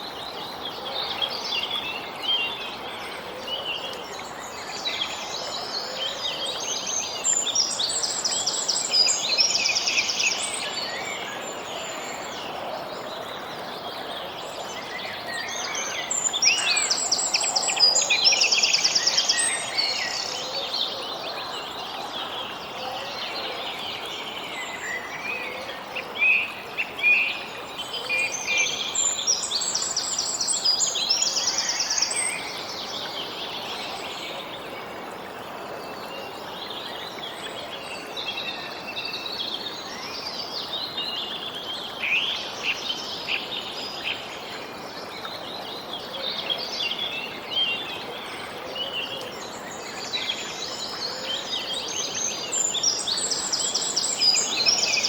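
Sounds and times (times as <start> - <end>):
outdoor ambience hiss: 0.0 - 55.0
songbirds singing: 0.0 - 55.0.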